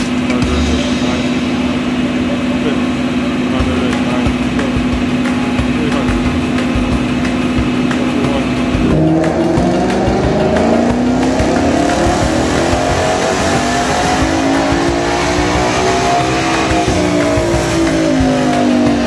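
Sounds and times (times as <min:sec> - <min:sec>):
car engine revving under load: 0:00.0 - 0:19.0.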